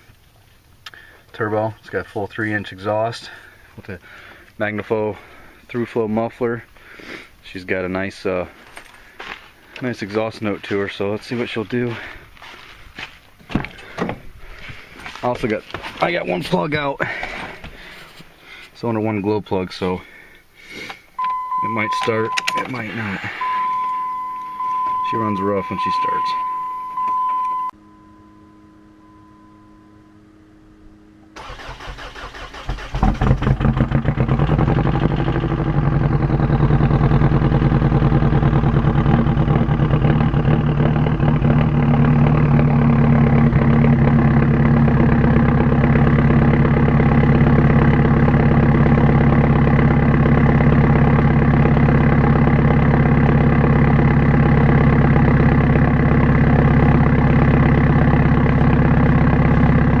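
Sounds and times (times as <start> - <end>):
diesel engine cranking and idling: 0.0 - 18.0, 18.8 - 27.8, 31.2 - 60.0.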